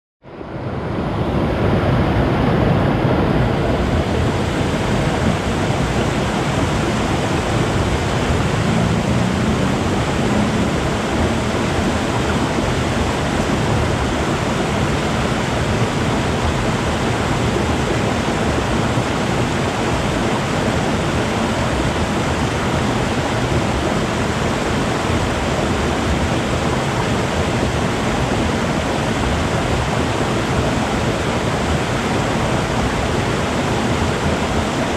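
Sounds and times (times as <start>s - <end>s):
river water flowing and gurgling: 0.2s - 34.9s.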